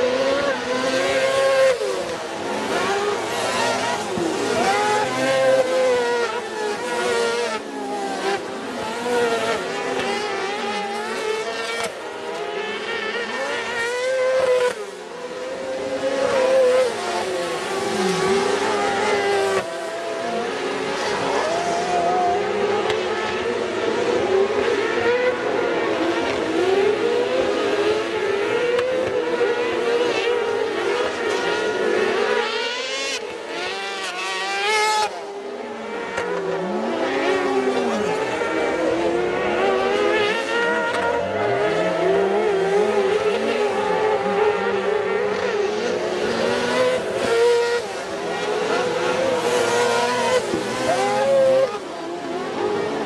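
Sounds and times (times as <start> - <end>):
racing engines revving: 0.0 - 53.0.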